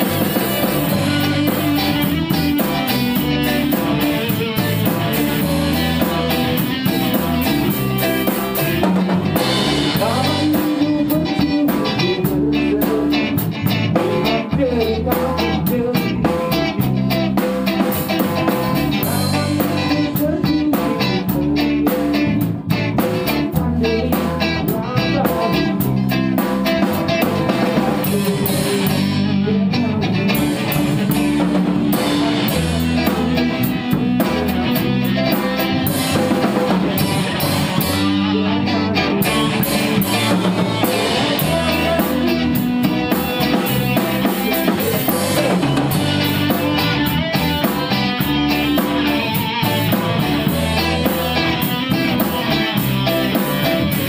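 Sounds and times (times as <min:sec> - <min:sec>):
band playing a song: 0:00.0 - 0:54.0
drum kit steady beat: 0:00.0 - 0:54.0
guitars strummed and picked: 0:00.0 - 0:54.0.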